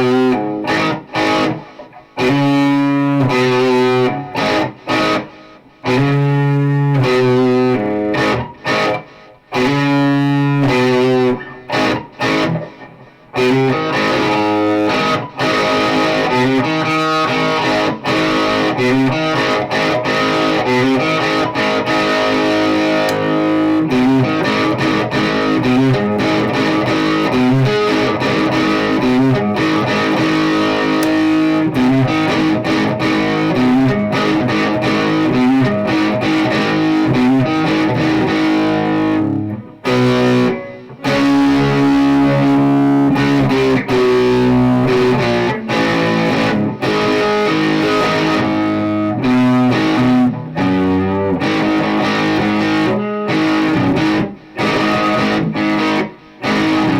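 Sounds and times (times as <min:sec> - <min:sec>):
distorted electric guitar: 0:00.0 - 0:56.9.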